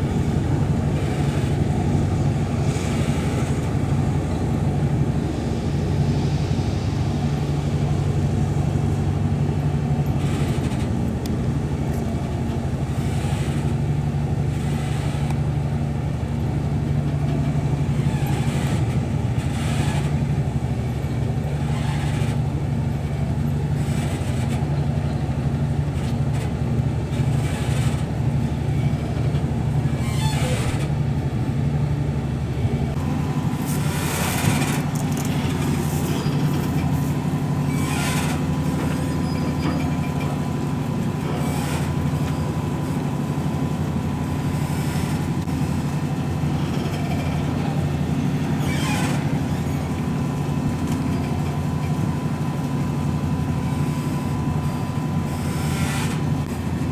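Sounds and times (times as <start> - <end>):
boat engines humming: 0.0 - 56.9.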